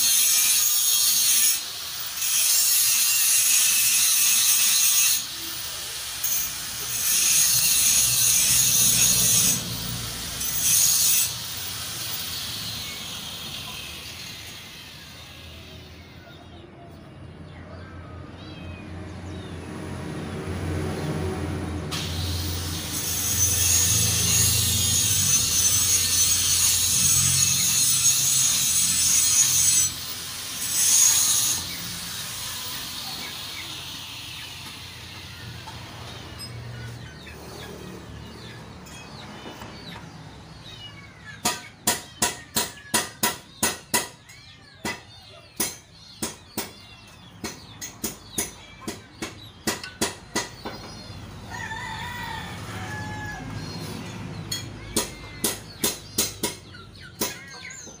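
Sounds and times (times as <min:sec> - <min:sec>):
birds chirping: 0:07.8 - 0:58.0.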